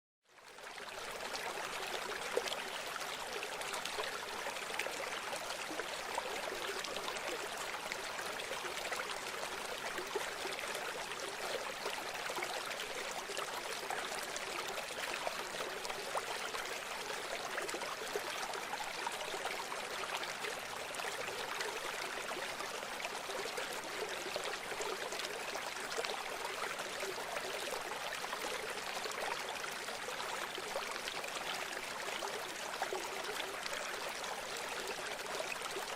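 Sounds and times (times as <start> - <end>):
river water flowing: 0.6 - 35.9.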